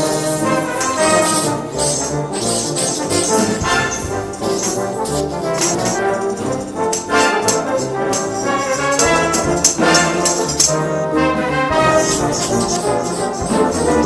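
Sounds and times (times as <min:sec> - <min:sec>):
brass band playing: 0:00.0 - 0:14.0
percussion hits: 0:00.0 - 0:14.0.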